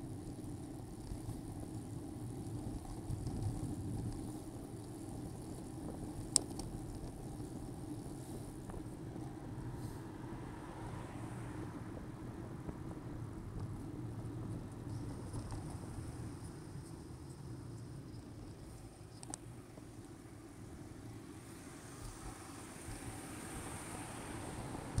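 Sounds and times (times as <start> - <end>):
bicycle tyres on road: 0.0 - 25.0.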